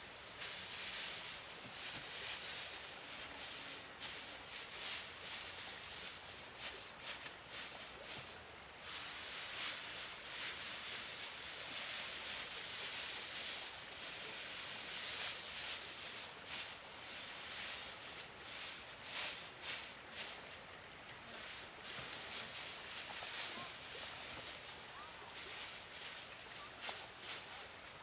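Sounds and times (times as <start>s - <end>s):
dry grass rustling and crackling: 0.0s - 28.0s.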